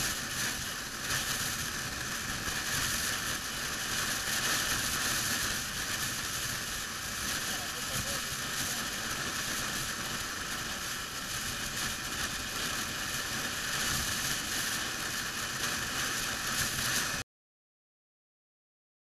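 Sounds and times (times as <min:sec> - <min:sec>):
wind and road noise from motorcycle: 0:00.0 - 0:17.2.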